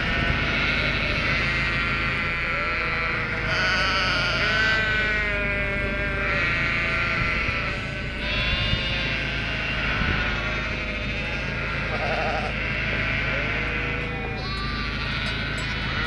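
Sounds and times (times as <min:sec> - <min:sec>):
flock of sheep bleating: 0:00.0 - 0:16.0.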